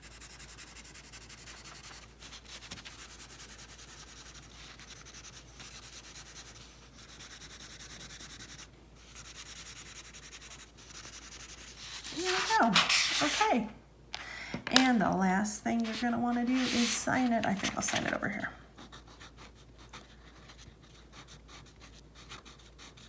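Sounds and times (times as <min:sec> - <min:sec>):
crayon scratching on paper: 0:00.0 - 0:13.6, 0:15.7 - 0:23.0.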